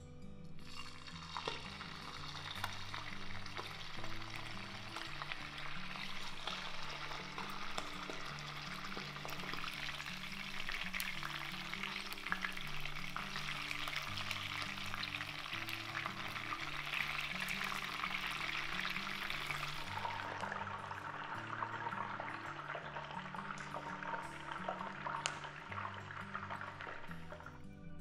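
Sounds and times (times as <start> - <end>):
chicken sizzling in hot oil: 0.6 - 27.4.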